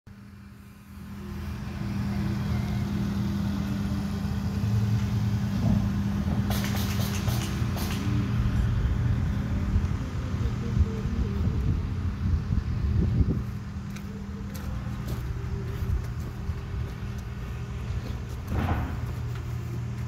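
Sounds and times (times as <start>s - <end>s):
engine humming: 0.1s - 20.0s.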